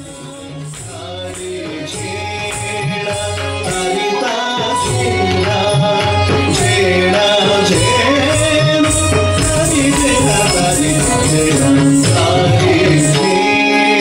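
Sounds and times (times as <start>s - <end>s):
person singing melody: 0.0s - 14.0s.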